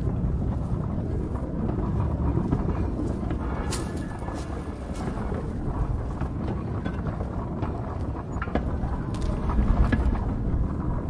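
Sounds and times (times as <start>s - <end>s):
cart wheels rumbling on rails: 0.0s - 11.0s.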